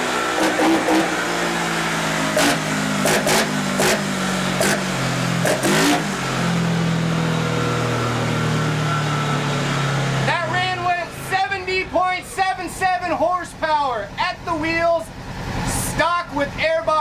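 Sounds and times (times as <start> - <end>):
engine revving and idling: 0.0 - 17.0.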